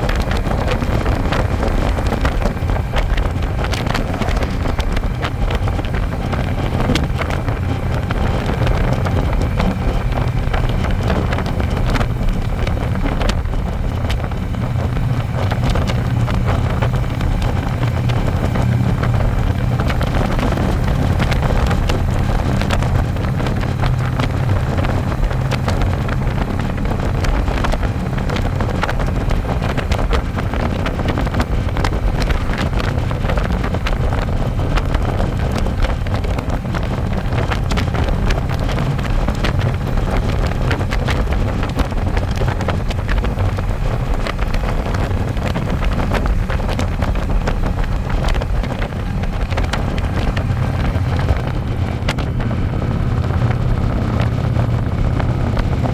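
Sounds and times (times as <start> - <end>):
motorcycle engine running: 0.0 - 55.9
wind buffeting microphone: 0.0 - 55.9.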